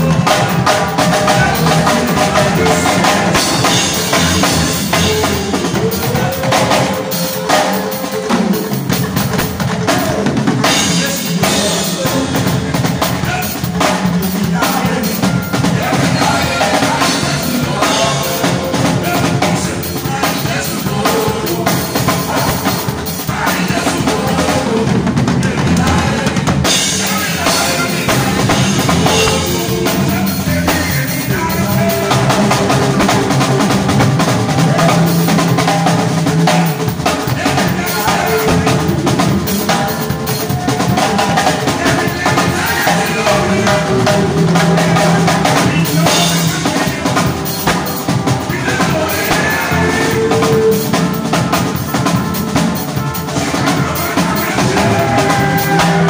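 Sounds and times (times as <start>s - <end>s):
snare drum: 0.0s - 24.7s, 25.4s - 56.0s
live band playing: 0.0s - 56.0s.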